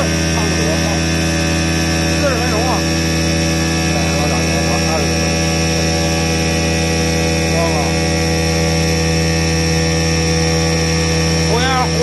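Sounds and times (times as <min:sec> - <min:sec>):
coolant spraying: 0:00.0 - 0:12.0
stone grinding machine hum: 0:00.0 - 0:12.0.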